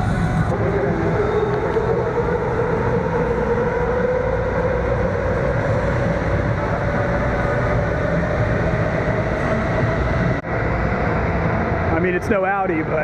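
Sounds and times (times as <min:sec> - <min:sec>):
vehicle rumble with rising drone: 0:00.0 - 0:13.0.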